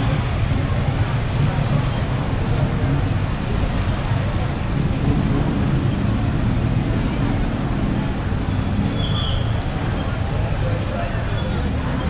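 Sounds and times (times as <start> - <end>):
crowd voices: 0.0 - 12.0
traffic engines and tyres: 0.0 - 12.0.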